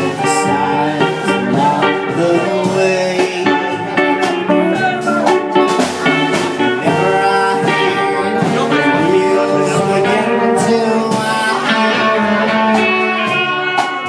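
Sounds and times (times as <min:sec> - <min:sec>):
electric guitar bending notes: 0:00.0 - 0:14.0
live country band playing: 0:00.0 - 0:14.0.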